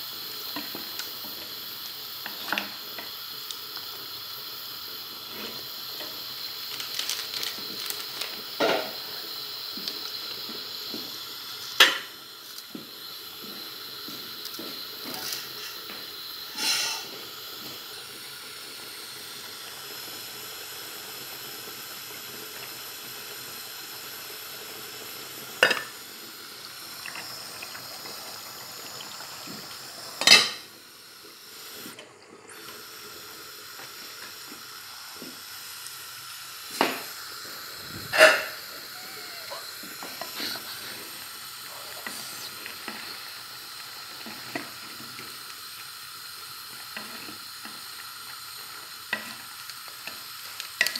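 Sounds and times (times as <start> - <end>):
pot simmering hiss: 0.0 - 50.9.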